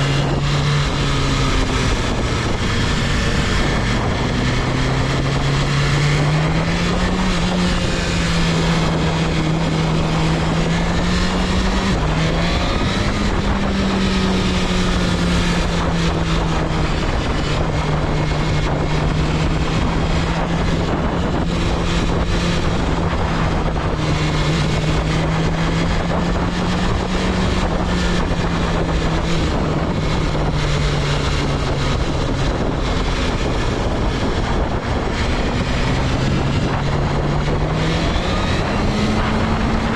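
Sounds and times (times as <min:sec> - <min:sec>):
heavy wind rush: 0:00.0 - 0:39.9
motorcycle engine cruising: 0:00.0 - 0:39.9.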